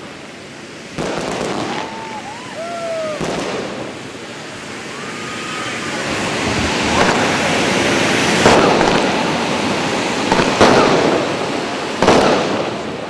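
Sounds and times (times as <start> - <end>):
continuous rush: 0.0 - 13.0
fireworks bangs: 0.7 - 4.9, 5.8 - 13.0.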